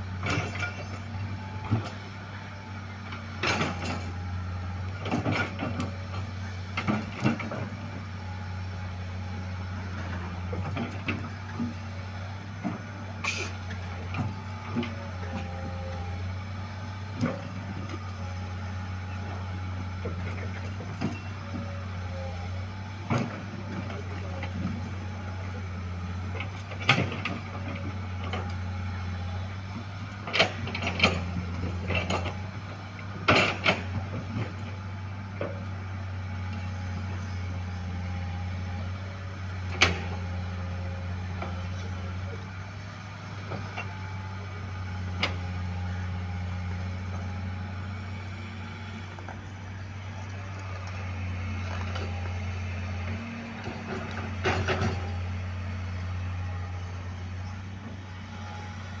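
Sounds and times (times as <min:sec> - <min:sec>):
large engine idling: 0:00.0 - 0:59.0.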